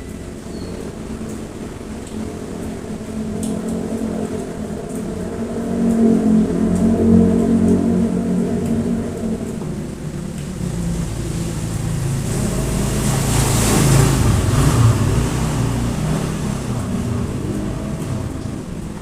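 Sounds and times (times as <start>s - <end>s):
vehicle passing on wet road: 0.0s - 19.0s.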